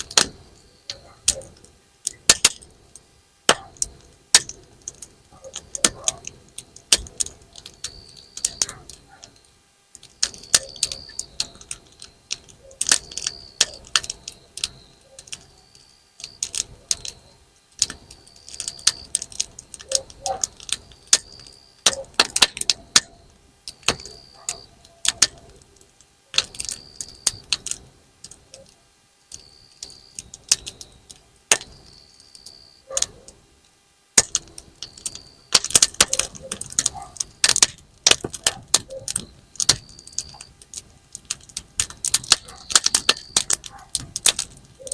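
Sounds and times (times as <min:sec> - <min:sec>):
campfire crackling and popping: 0:00.0 - 0:44.9
fire hissing: 0:00.0 - 0:44.9.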